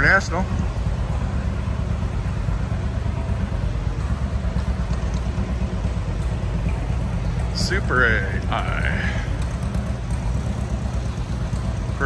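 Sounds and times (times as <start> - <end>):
low fluttering rumble: 0.0 - 12.0.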